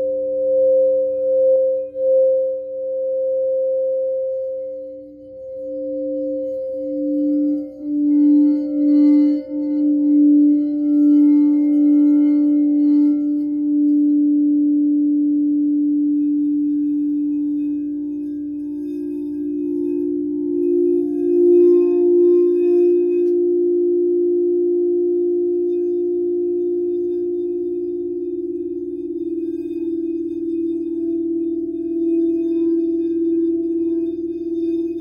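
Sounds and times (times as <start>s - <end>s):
higher singing bowl tone: 0.0s - 35.0s
low singing bowl tone: 0.0s - 35.0s.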